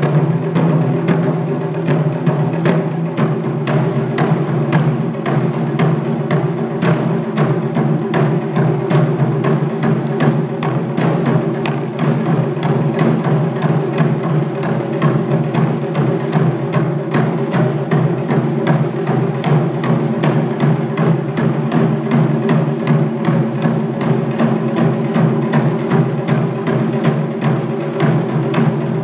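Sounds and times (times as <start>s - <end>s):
drum ensemble pounding: 0.0s - 29.0s.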